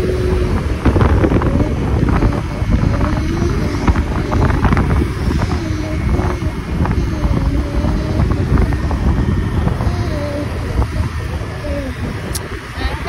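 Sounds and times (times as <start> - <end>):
scooter engine running: 0.0 - 13.0
wind buffeting microphone: 0.0 - 13.0.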